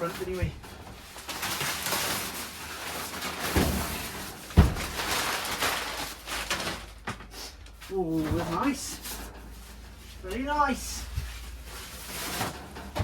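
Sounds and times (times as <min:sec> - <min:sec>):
packaging rustling and scraping: 0:00.0 - 0:13.0.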